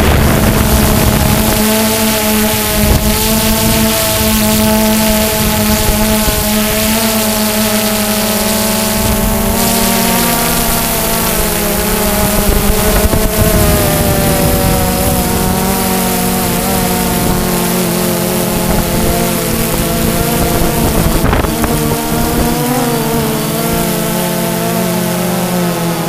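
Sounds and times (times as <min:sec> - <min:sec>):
drone propellers buzzing: 0:00.0 - 0:26.0
wind hiss: 0:00.0 - 0:26.0.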